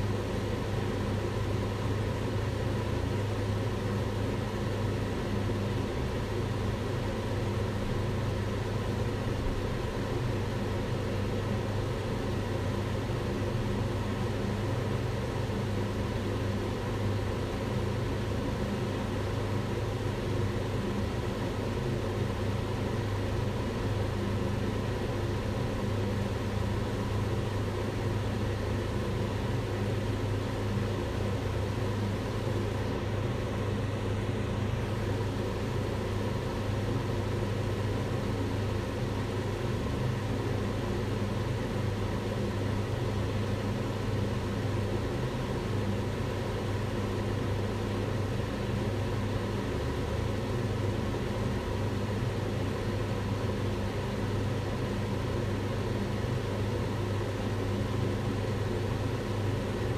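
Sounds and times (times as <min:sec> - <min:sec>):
range hood fan running: 0:00.0 - 0:59.9.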